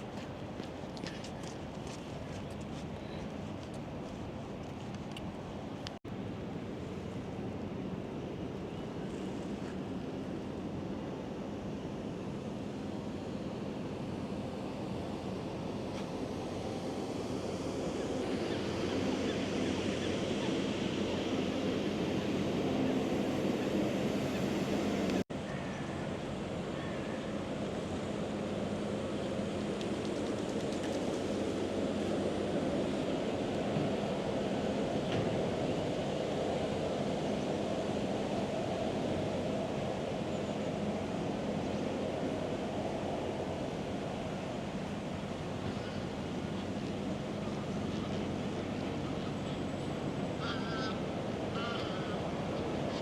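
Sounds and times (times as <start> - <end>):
rushing city ambience: 0.0 - 53.0.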